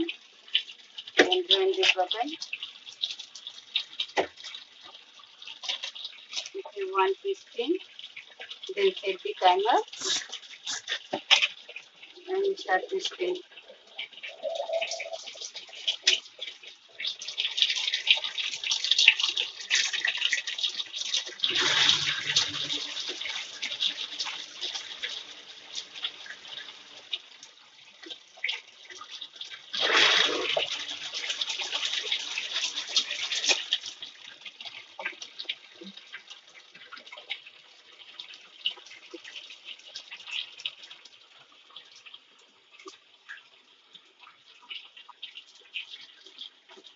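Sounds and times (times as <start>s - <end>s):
water splashing in washing machine: 0.0s - 13.6s, 14.2s - 46.9s.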